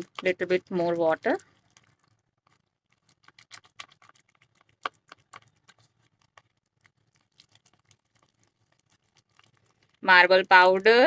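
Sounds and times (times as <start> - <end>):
stirring tool tapping container: 0.0 - 11.0.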